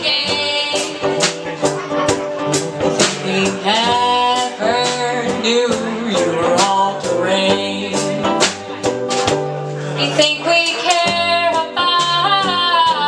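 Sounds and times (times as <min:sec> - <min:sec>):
acoustic guitar: 0:00.0 - 0:13.0
drum kit: 0:00.0 - 0:13.0
sliding lead melody: 0:00.0 - 0:13.0.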